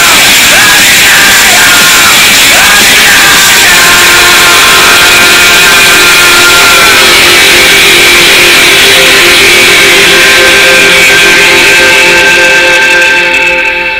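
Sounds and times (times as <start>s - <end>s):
loud music with held notes: 0.0s - 13.9s.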